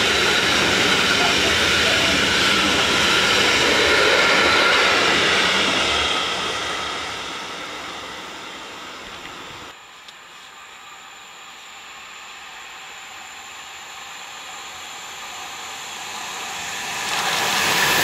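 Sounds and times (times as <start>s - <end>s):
freight train wheels on rails: 0.0s - 10.6s, 11.8s - 18.0s.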